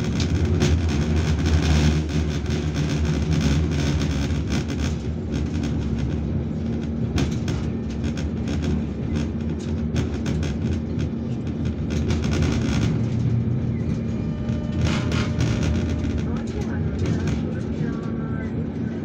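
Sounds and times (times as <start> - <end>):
steady hum: 0.0 - 19.0
tram low rumble: 0.0 - 19.0.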